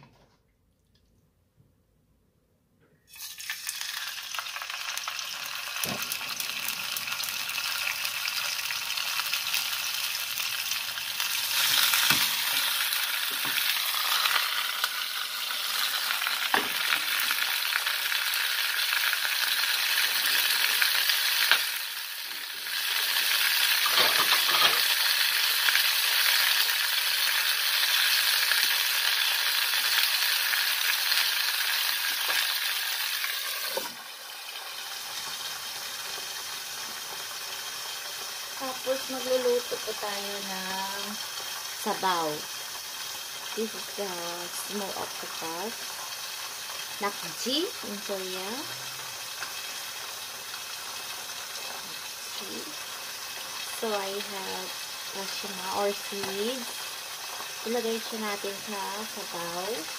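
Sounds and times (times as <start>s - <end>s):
fish sizzling in a pan: 3.1s - 59.9s.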